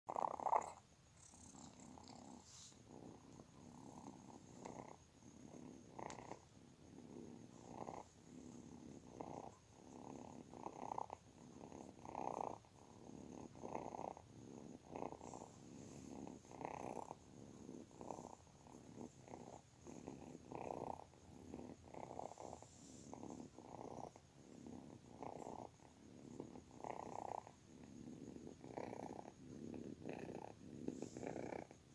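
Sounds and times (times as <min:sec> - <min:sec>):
kitten purring: 0:00.1 - 0:31.9.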